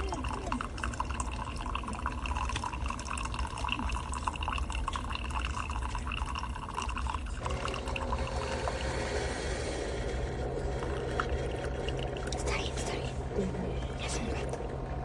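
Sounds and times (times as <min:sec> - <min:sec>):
coffee maker hum: 0:00.0 - 0:15.0
coffee pouring and dripping: 0:00.0 - 0:15.0.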